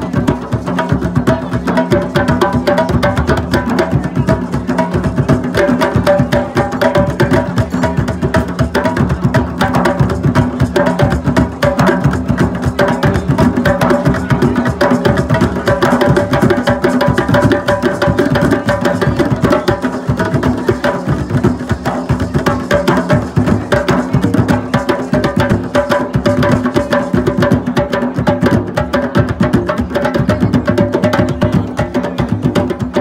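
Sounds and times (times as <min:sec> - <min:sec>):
hand drums playing rhythm: 0:00.0 - 0:33.0.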